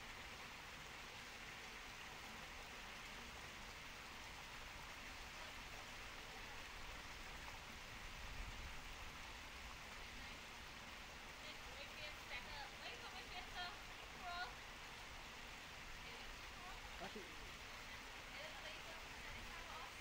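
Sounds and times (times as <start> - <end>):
small waterfall rushing over rocks: 0.0 - 20.0.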